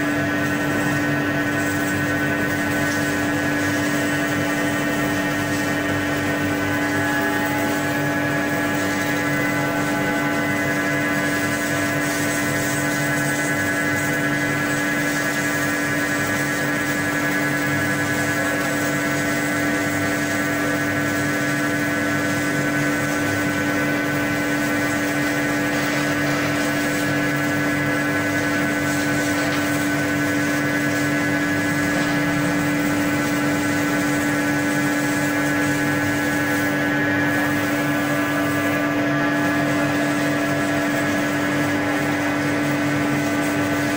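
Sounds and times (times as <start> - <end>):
cutting machine whine: 0.0 - 43.9.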